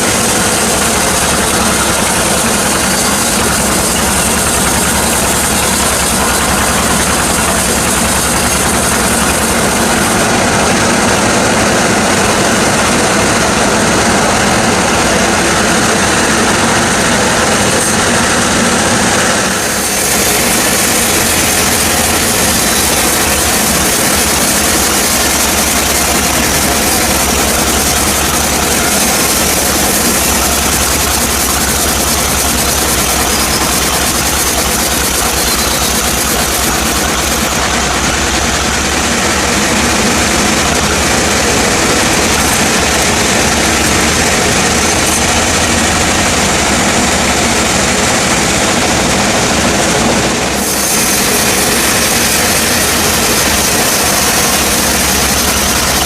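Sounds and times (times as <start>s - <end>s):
sawmill machinery engine drone: 0.0s - 56.0s.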